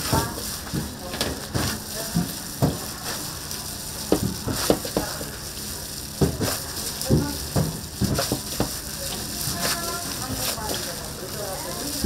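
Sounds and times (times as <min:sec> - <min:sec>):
meat patties sizzling: 0:00.0 - 0:12.0.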